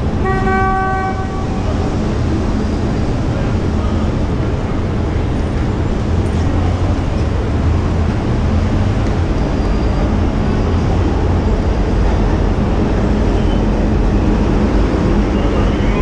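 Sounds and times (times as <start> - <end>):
city street traffic hum: 0.0 - 16.0.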